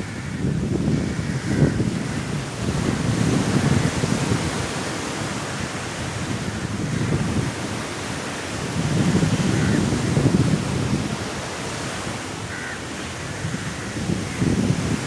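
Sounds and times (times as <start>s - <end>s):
sea waves washing on shore: 0.0s - 15.0s
strong wind: 0.0s - 15.0s.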